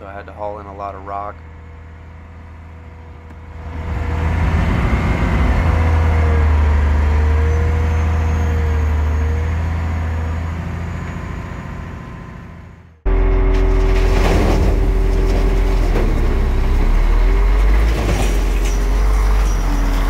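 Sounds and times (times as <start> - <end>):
wavering engine whine: 0.0 - 20.0
diesel engine revving: 1.4 - 20.0.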